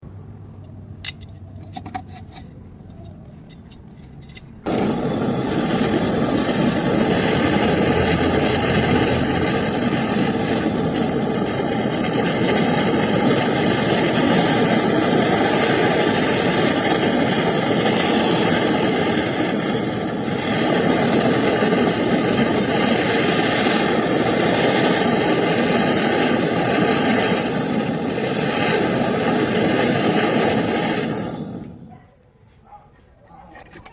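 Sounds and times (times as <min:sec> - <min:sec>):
welding torch flame hissing: 0:04.6 - 0:31.9.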